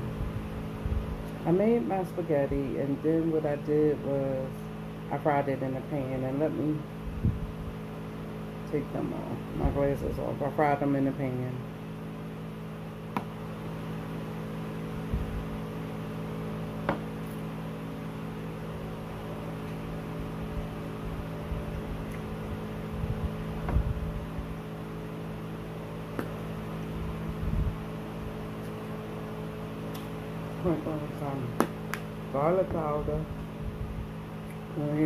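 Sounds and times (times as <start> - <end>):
appliance humming: 0.0 - 35.0.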